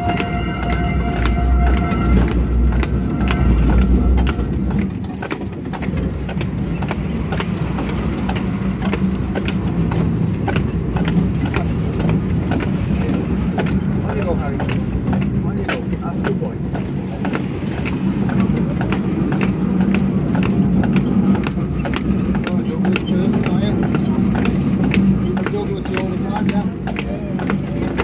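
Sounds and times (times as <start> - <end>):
deep rumble: 0.0 - 28.0
horse hooves clip-clopping: 0.0 - 28.0
tram wheels running on rails: 0.0 - 28.0.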